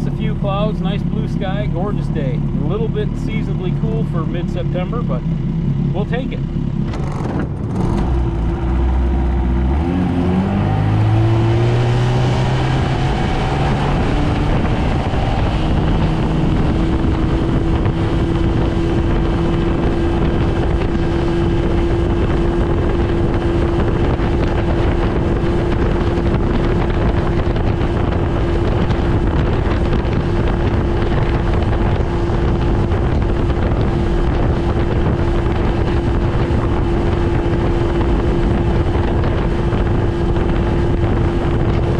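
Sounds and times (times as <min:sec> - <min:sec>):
outboard motor revving: 0:00.0 - 0:41.9
wind on microphone: 0:00.0 - 0:41.9.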